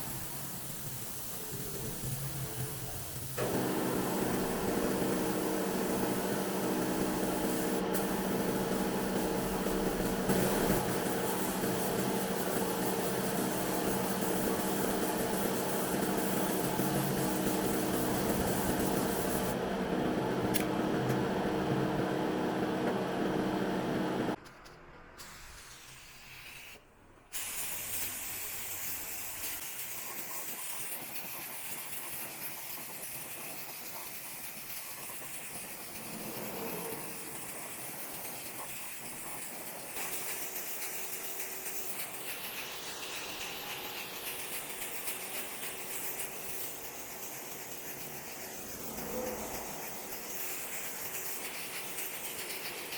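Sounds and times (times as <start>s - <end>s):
paint spray hissing: 0.0s - 19.6s, 25.2s - 52.9s.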